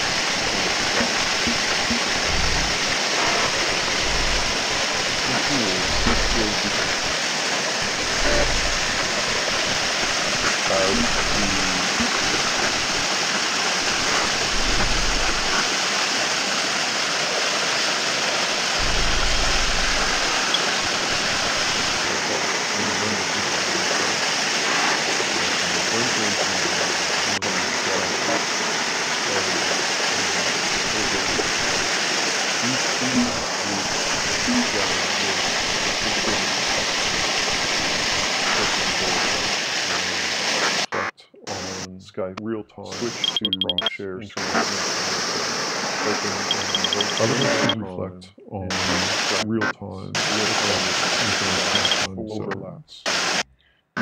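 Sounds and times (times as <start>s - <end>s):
low hum: 0.0s - 15.8s, 18.7s - 53.7s
running water rushing: 0.0s - 40.9s, 42.9s - 43.8s, 44.4s - 47.8s, 50.1s - 52.2s, 53.1s - 53.4s.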